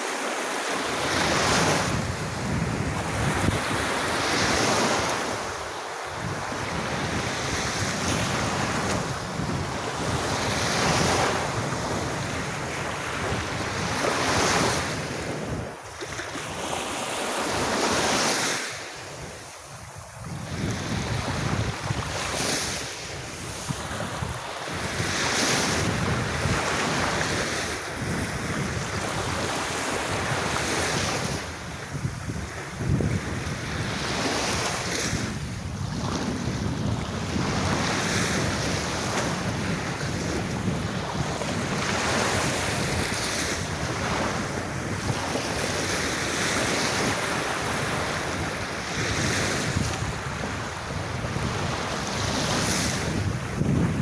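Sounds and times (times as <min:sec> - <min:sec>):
sea waves breaking on beach: 0:00.0 - 0:54.0
wind on microphone: 0:00.6 - 0:54.0.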